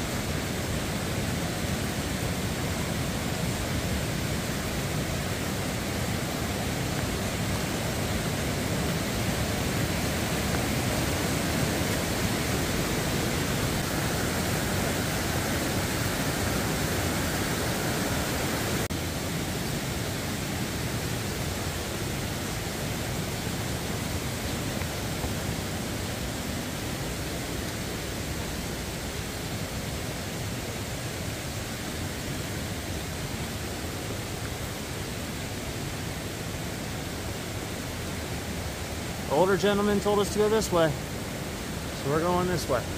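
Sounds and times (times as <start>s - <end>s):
stream running over rocks: 0.0s - 42.9s.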